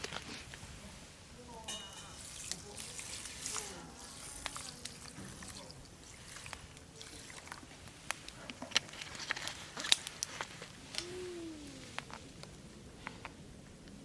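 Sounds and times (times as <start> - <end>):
fire pops and snaps: 0.0 - 0.8, 3.6 - 14.0
campfire crackling: 0.0 - 14.0.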